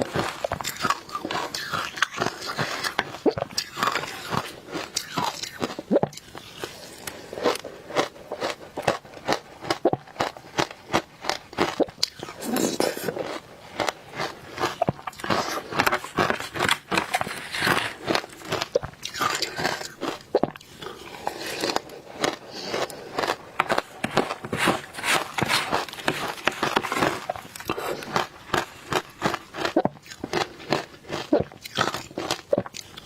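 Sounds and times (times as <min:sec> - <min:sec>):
ice crunching while chewed: 0:00.0 - 0:33.0.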